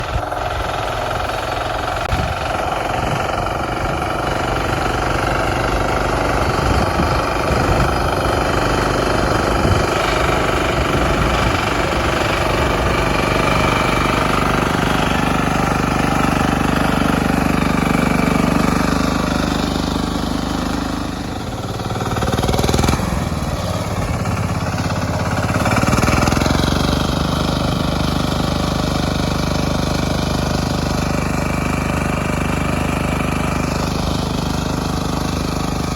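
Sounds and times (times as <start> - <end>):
single-cylinder engine running: 0.0 - 35.9.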